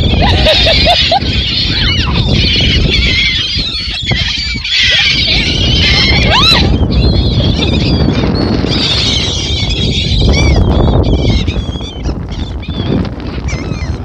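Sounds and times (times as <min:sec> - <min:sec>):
flock of birds calling: 0:00.0 - 0:14.0
wind noise on microphone: 0:00.0 - 0:14.0.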